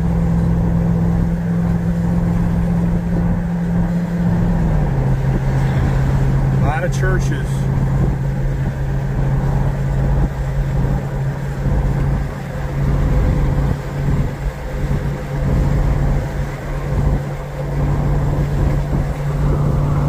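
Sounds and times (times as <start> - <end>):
engine and tyres drone: 0.0 - 20.0
road noise: 0.0 - 20.0.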